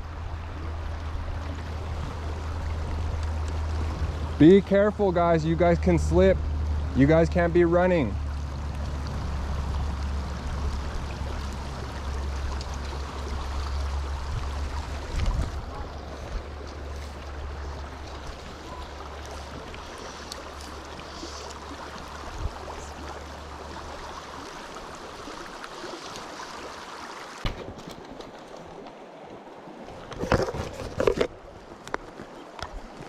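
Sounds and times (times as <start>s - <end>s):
creek running over rocks: 0.0s - 33.0s.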